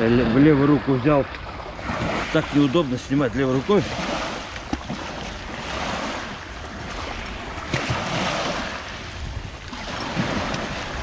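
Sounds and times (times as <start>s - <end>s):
waves washing over pebbles: 0.0s - 11.0s
wind rumble on microphone: 0.0s - 11.0s.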